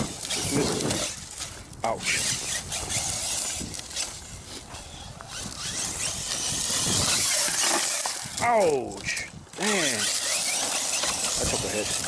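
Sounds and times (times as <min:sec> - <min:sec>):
electric motor revving: 0:00.0 - 0:01.4, 0:02.0 - 0:08.4, 0:09.5 - 0:12.0
tyres scrabbling over gravel: 0:00.0 - 0:12.0.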